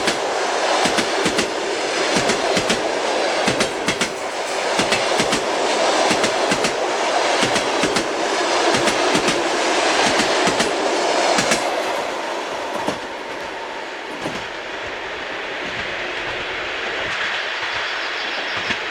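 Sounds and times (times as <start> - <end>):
train rolling rumble: 0.0 - 18.9
train wheels clattering: 0.0 - 18.9.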